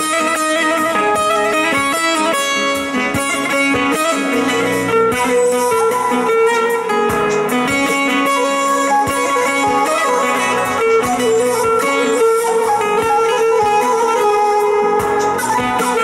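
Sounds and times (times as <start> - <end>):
held electronic keyboard notes: 0.0 - 16.0
plucked long-necked lute melody: 0.0 - 16.0.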